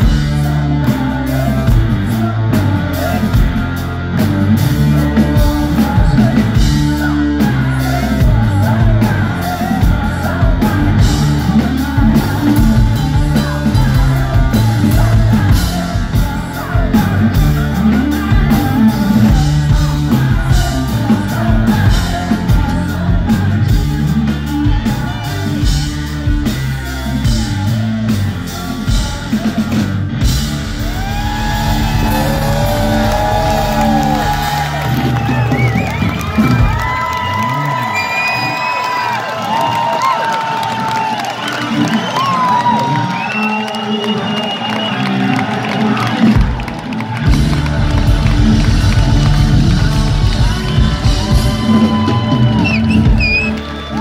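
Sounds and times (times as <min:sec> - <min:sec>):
bass guitar: 0:00.0 - 0:38.3, 0:44.7 - 0:54.0
person singing: 0:00.0 - 0:38.6, 0:41.5 - 0:54.0
drum kit: 0:00.0 - 0:54.0
electric guitars: 0:00.0 - 0:54.0.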